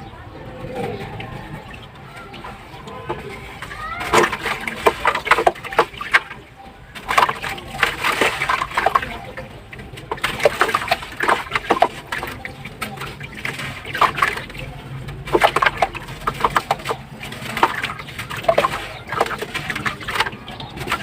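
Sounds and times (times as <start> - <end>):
slabs crumbling in water: 3.1 - 21.0.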